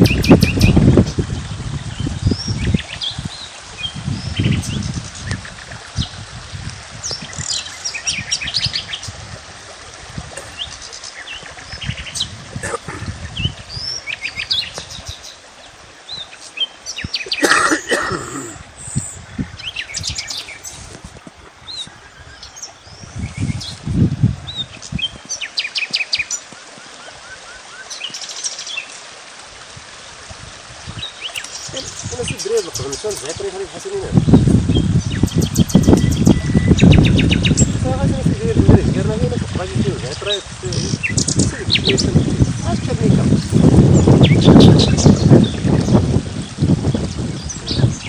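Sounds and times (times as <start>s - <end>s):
birds chirping and trilling: 0.0s - 6.2s, 7.0s - 9.3s, 10.4s - 21.0s, 21.6s - 29.0s, 30.8s - 48.0s.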